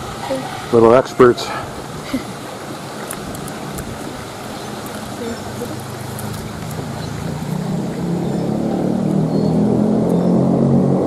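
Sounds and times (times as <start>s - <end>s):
stream flowing over rocks: 0.0s - 10.3s
low motor hum: 1.6s - 11.0s.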